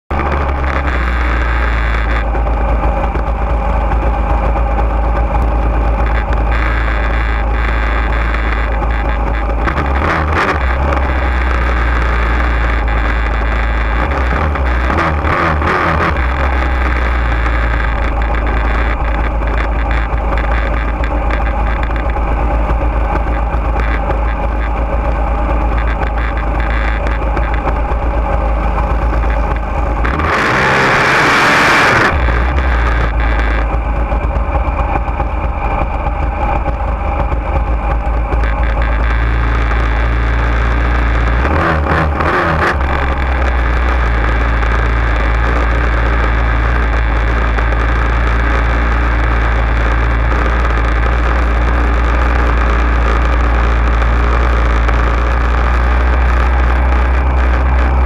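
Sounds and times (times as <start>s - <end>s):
dragster engine low rumble: 0.0s - 58.0s.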